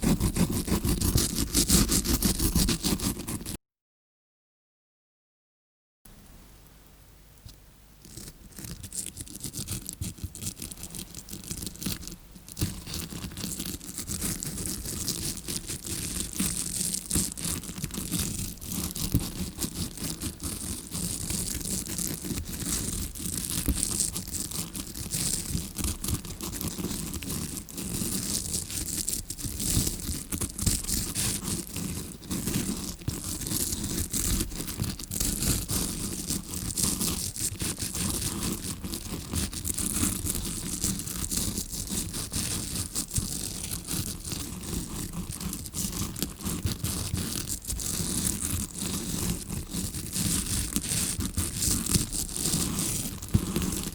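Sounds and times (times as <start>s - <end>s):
brush scrubbing against microphone: 0.0s - 3.6s, 8.0s - 53.9s.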